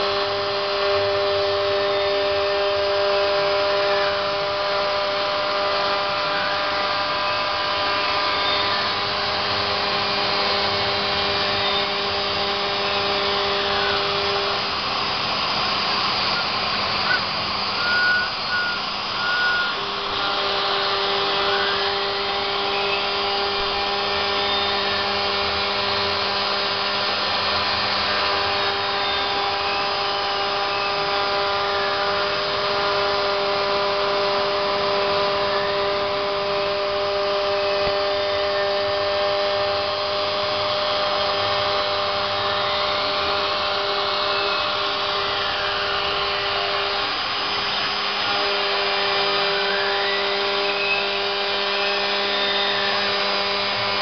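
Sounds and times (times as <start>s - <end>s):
router spindle motor whine: 0.0s - 54.0s
stepper motors changing pitch: 2.6s - 51.2s.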